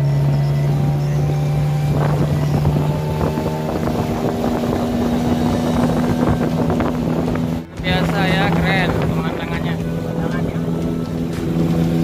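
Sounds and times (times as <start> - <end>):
motorboat engine running: 0.0 - 12.0
rushing water: 0.0 - 12.0
wind on microphone: 0.0 - 12.0.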